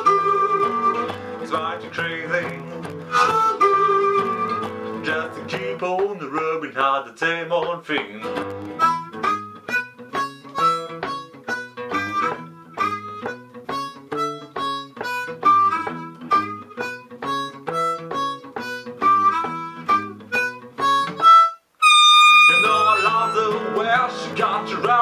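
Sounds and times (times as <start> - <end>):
acoustic blues picked notes: 0.0 - 25.0.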